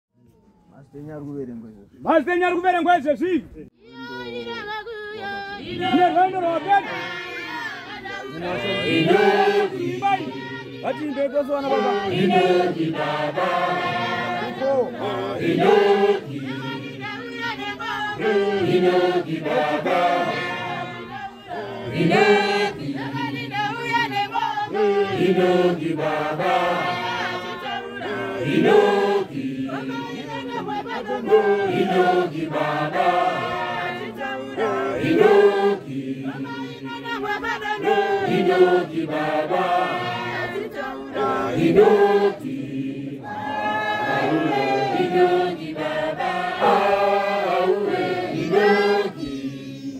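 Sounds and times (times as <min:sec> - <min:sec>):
congregation singing in harmony: 0:04.2 - 0:49.9.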